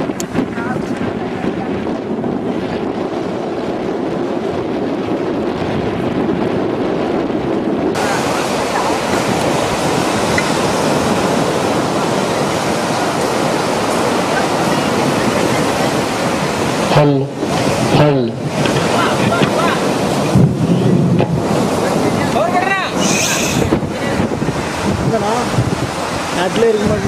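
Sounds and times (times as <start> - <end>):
surf breaking on beach: 0.0 - 27.0
wind on microphone: 0.0 - 27.0.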